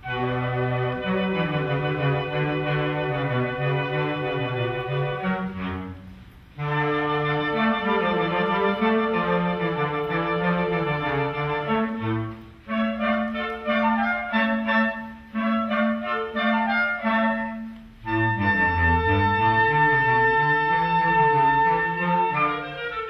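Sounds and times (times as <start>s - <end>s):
woodwind ensemble playing: 0.0s - 23.0s.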